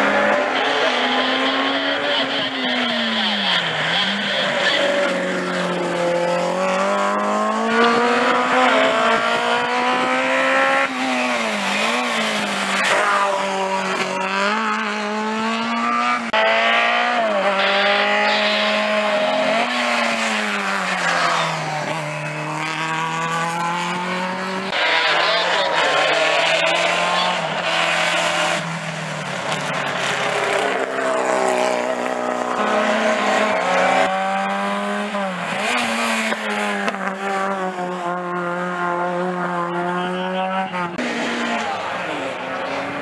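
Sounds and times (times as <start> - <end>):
racing car engines at high revs: 0.0 - 43.0.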